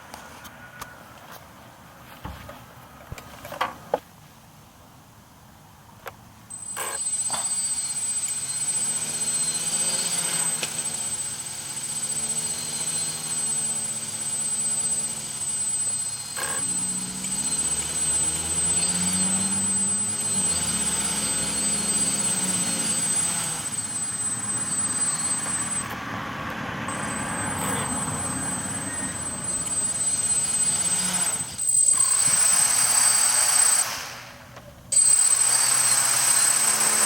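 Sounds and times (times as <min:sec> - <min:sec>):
drone propellers buzzing: 0:06.5 - 0:37.0.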